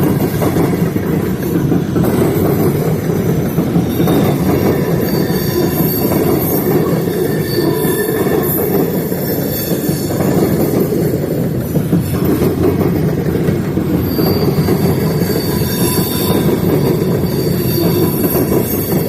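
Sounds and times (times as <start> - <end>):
high-pitched wheel squeals: 0.0 - 12.3, 13.5 - 19.0
train wheels rumbling on rail: 0.0 - 19.0.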